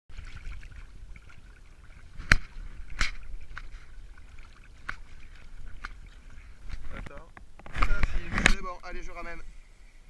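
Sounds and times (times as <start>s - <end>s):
water lapping against kayak: 0.1s - 10.0s.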